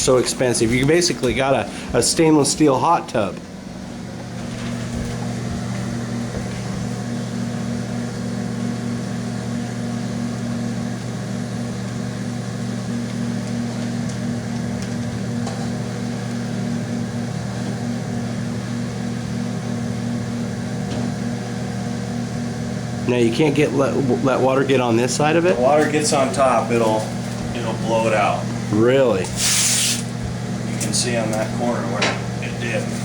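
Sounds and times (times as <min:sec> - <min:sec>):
low hum of running machinery: 0:00.0 - 0:33.0.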